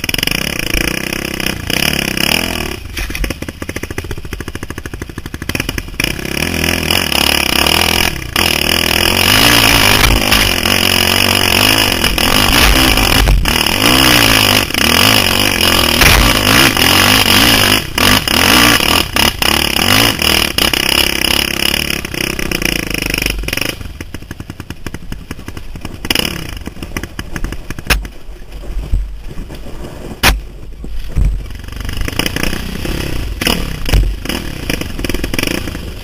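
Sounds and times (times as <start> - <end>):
dirt bike engine revving: 0.0 - 27.9, 31.4 - 36.0.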